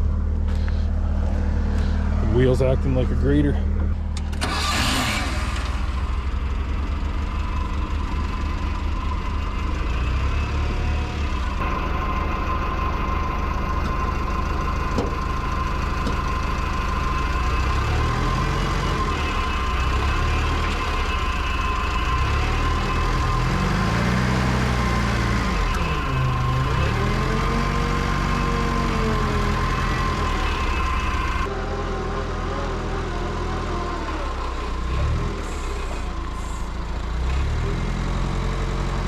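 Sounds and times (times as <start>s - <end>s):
heavy equipment engine running: 0.0s - 39.0s.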